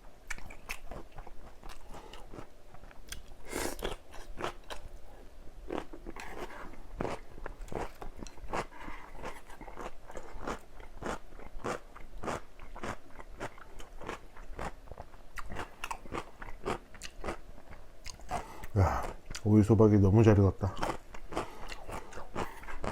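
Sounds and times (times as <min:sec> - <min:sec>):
chewing crisp vegetables: 0:00.2 - 0:22.9.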